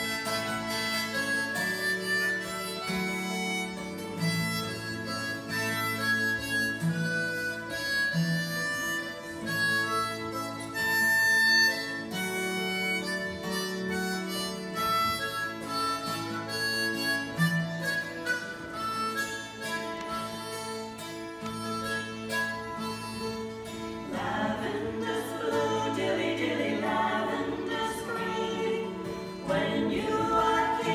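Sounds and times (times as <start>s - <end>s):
acoustic guitar accompaniment: 0.0s - 30.9s
harmonica melody: 0.0s - 30.9s.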